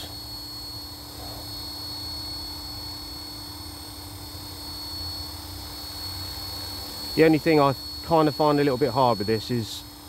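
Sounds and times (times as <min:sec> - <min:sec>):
high electric motor whine: 0:00.0 - 0:10.0
rc helicopter rotor hum: 0:00.0 - 0:10.0.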